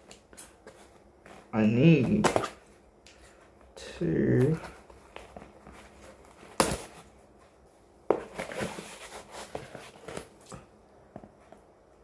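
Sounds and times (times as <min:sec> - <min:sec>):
rustling and scraping: 0:00.0 - 0:03.8, 0:04.5 - 0:11.8.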